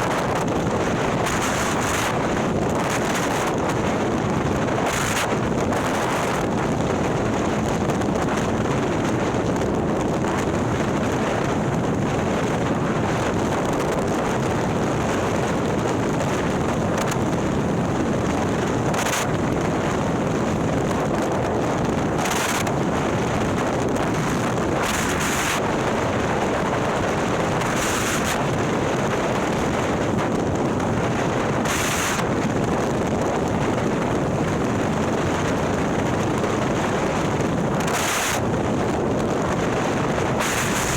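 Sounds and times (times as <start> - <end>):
wind noise on microphone: 0.0 - 40.9.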